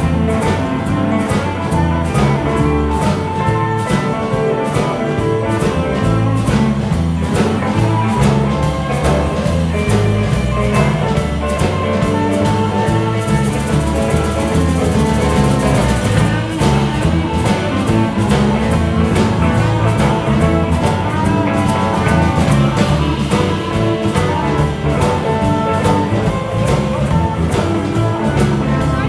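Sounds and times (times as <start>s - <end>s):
bass guitar: 0.0s - 29.0s
drum kit beat: 0.0s - 29.0s
electric guitars: 0.0s - 29.0s.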